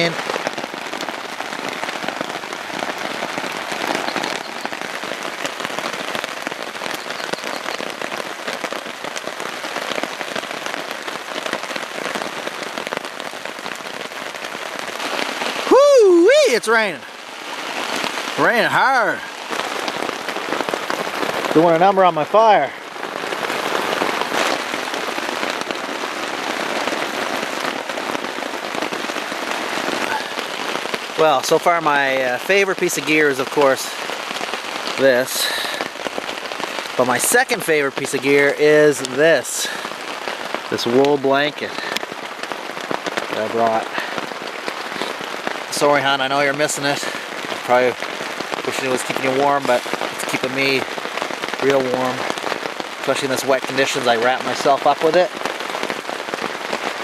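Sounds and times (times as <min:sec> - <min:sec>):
heavy rain on a tarp: 0:00.0 - 0:57.0.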